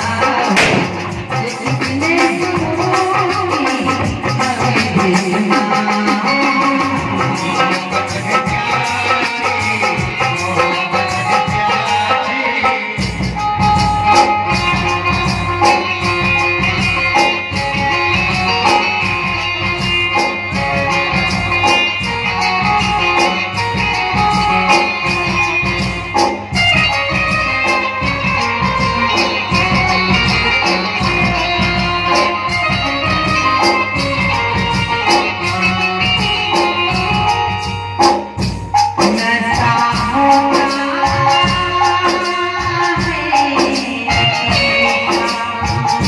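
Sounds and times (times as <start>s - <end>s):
keyboard melody: 0.0s - 46.0s
steady drum beat: 0.0s - 46.0s.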